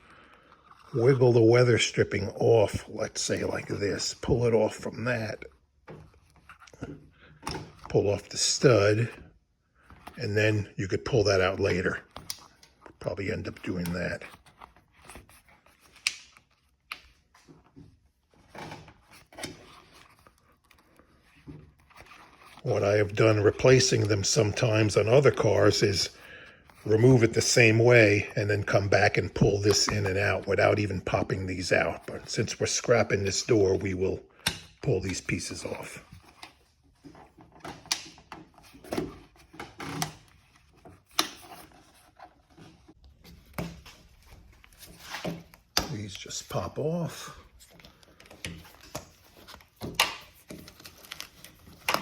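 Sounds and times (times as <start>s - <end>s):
rubber scraping rustles: 9.8s - 52.0s.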